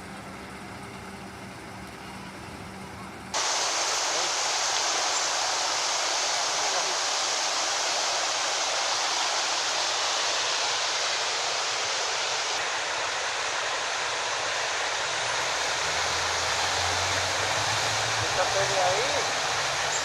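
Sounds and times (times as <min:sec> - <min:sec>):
vehicle engine hum: 0:00.0 - 0:20.0
river rushing: 0:03.3 - 0:20.0.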